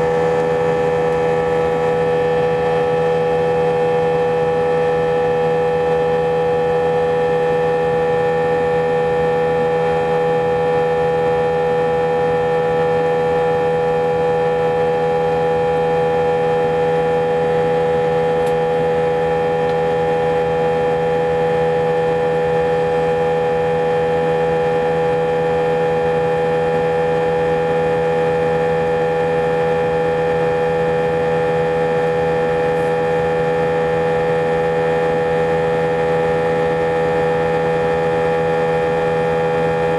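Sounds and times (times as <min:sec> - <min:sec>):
airplane engine drone in cabin: 0:00.0 - 0:39.9
steady humming tones: 0:00.0 - 0:39.9.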